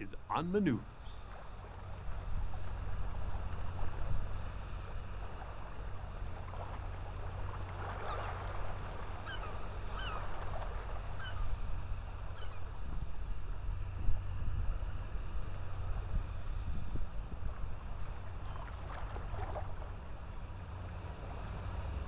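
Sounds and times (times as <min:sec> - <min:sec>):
wind rumble on microphone: 0:00.9 - 0:22.0.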